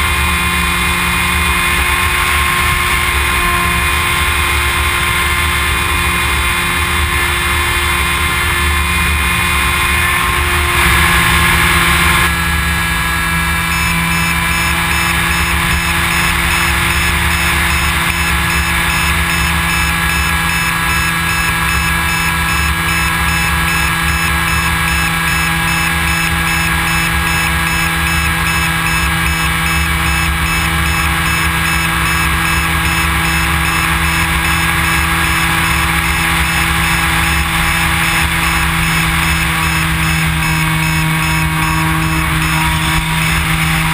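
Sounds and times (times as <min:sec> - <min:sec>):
model plane motor whine: 0:00.0 - 0:43.9.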